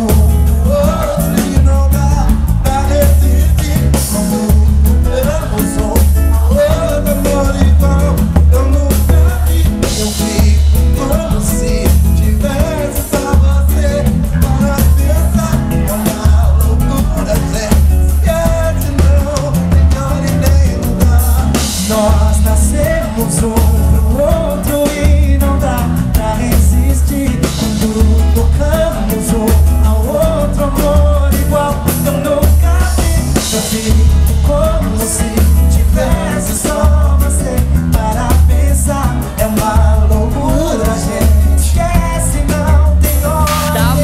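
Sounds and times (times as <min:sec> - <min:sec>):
bass: 0:00.0 - 0:44.0
man singing: 0:00.0 - 0:44.0
percussion drums: 0:00.0 - 0:44.0.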